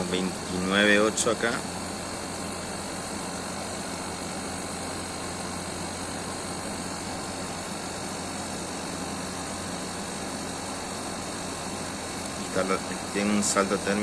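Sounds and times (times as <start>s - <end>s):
air conditioner humming: 0.0s - 14.0s.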